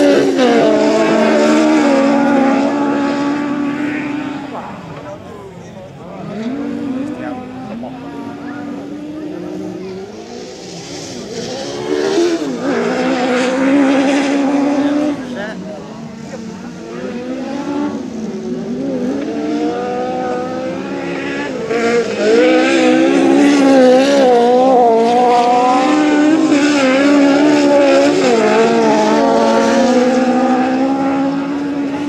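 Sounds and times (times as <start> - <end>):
race car engines revving: 0.0 - 32.0.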